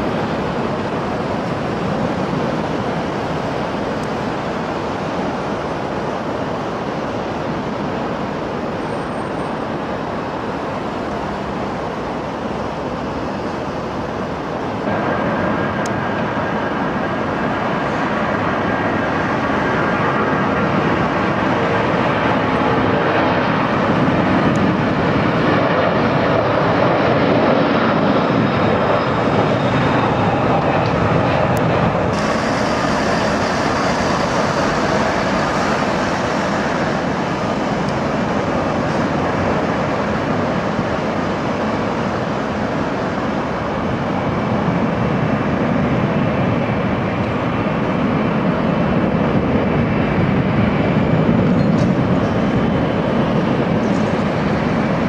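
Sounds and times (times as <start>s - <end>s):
airliner engine rumble: 0.0s - 55.0s.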